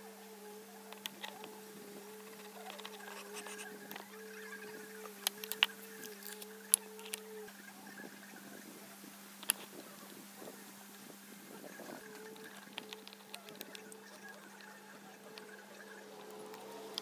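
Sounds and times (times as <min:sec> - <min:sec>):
steady droning hum: 0:00.0 - 0:17.0.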